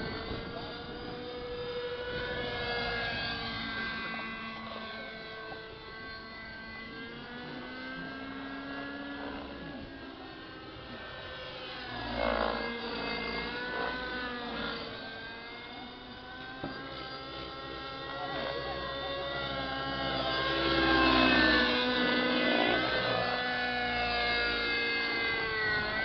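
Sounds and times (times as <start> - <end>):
model helicopter motor whine: 0.0 - 26.0.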